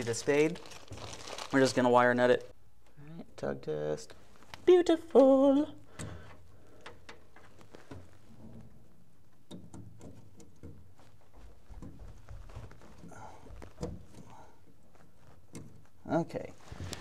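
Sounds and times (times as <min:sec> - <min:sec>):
wires being handled by hand: 0:00.0 - 0:02.1, 0:04.2 - 0:17.0.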